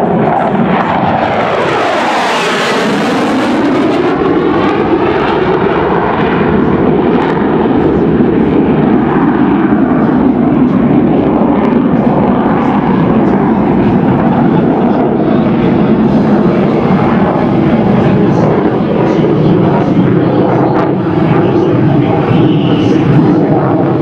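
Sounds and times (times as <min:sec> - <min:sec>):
jet flying past: 0:00.0 - 0:24.0.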